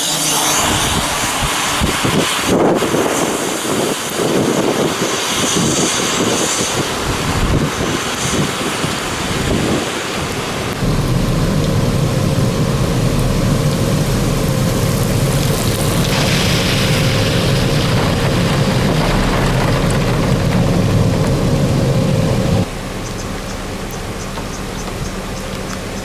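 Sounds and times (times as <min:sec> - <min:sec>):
rain: 0:00.0 - 0:26.0
wind buffeting microphone: 0:00.4 - 0:23.1.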